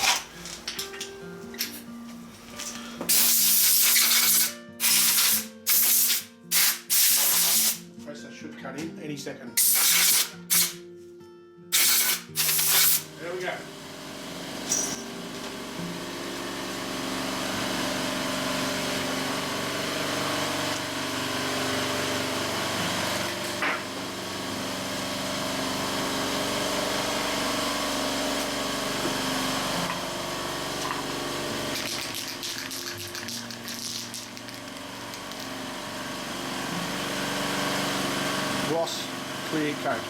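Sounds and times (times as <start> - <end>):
air compressor running: 2.6 - 7.8, 9.6 - 10.8, 11.7 - 32.5, 33.2 - 40.0.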